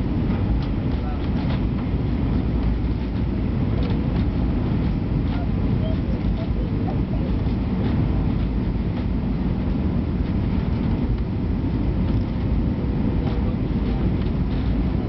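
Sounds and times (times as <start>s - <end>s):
airplane cabin noise: 0.0s - 15.0s.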